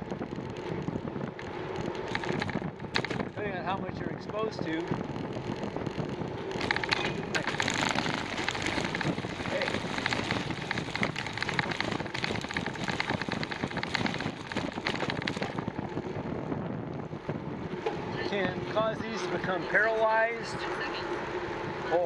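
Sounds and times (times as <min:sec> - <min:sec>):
bicycle tyres on rough trail: 0:00.0 - 0:20.2.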